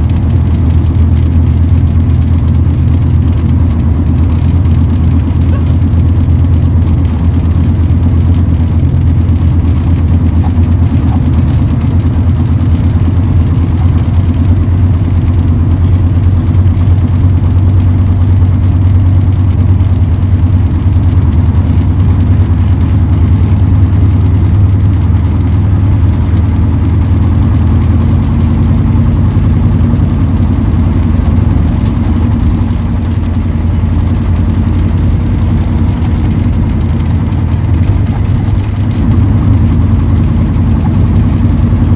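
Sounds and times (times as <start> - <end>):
bus diesel engine drone: 0.0 - 41.9.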